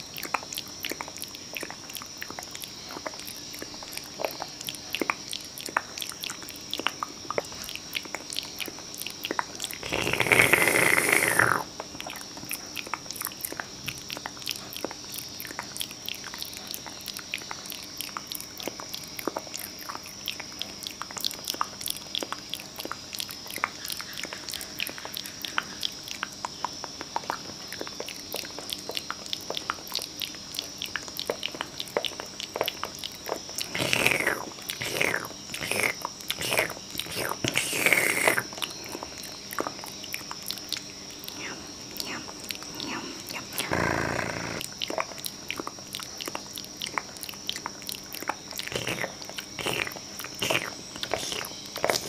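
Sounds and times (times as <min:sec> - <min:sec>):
wet mouth clicks and smacks: 0:00.0 - 0:52.0.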